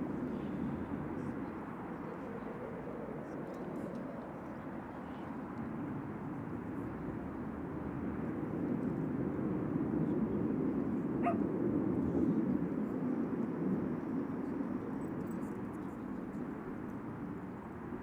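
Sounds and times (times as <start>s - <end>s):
distant jet aircraft rumble: 0.0s - 18.0s.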